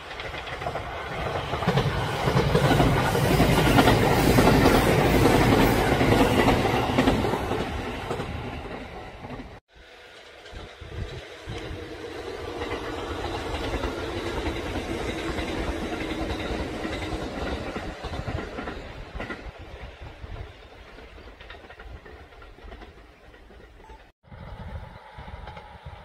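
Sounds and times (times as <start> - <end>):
rail joint clacks: 0.0 - 9.6, 10.2 - 26.0
electric train rumbling past: 0.0 - 26.0.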